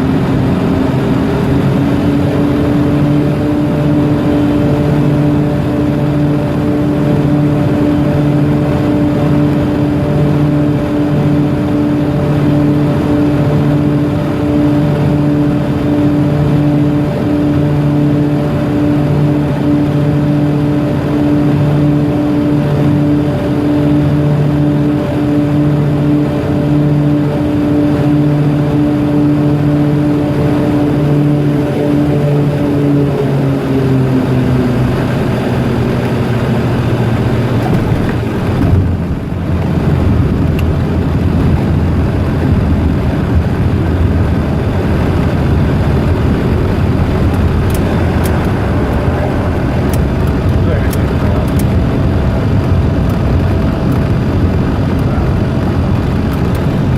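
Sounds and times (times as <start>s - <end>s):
propeller aircraft engines droning: 0.0s - 56.9s.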